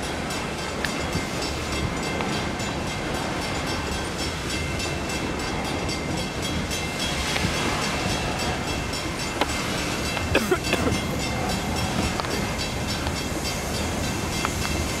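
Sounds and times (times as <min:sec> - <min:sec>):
railroad crossing bell ringing: 0:00.0 - 0:15.0
train cars rolling on rails: 0:00.0 - 0:15.0.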